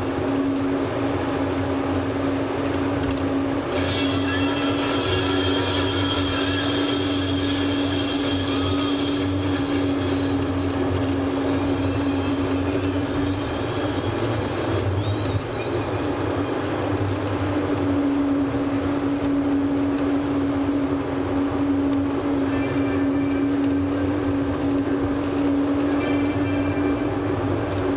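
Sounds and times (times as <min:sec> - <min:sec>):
car road and engine noise: 0:00.0 - 0:27.9
constant low hum: 0:00.0 - 0:27.9.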